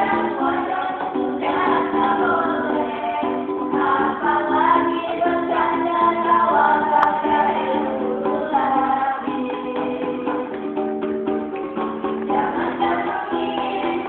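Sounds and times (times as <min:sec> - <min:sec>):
person singing slow song: 0:00.0 - 0:10.7, 0:12.3 - 0:14.0
musical accompaniment: 0:00.0 - 0:14.0.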